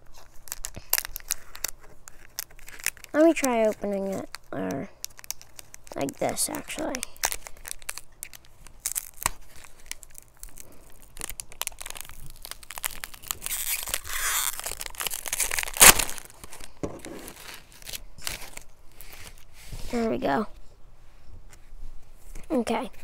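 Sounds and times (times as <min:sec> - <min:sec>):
wrapper crinkling: 0:00.0 - 0:19.5
wrapper tearing: 0:00.0 - 0:19.5.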